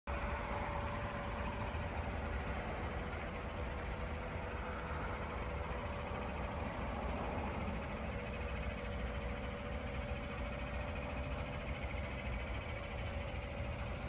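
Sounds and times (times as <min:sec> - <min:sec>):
faint steady hum: 0:00.1 - 0:14.0
pickup engine idling: 0:00.1 - 0:14.0.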